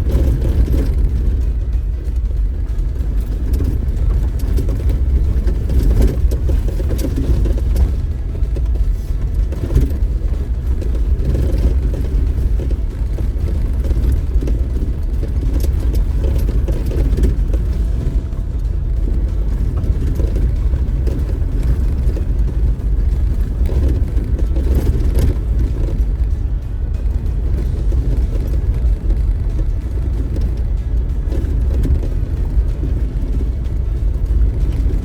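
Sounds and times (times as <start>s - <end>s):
knocks and rattles from bumps: 0.0s - 35.0s
off-road vehicle rumbling: 0.0s - 35.0s.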